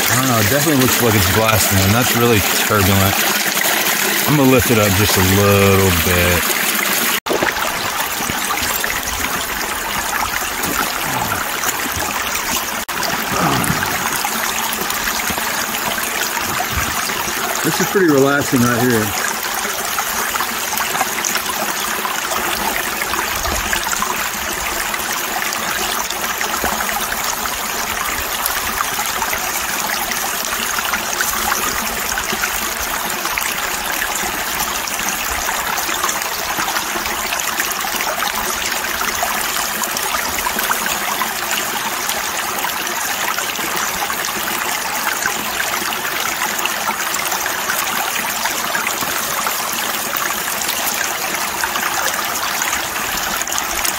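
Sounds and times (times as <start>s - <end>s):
water rushing through a sluice box: 0.0s - 53.9s.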